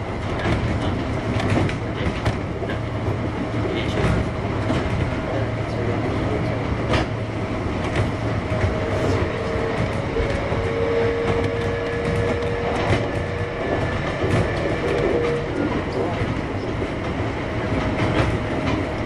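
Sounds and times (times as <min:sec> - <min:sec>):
rail joint clicks: 0:00.0 - 0:19.0
train wheels on rails: 0:00.0 - 0:19.0.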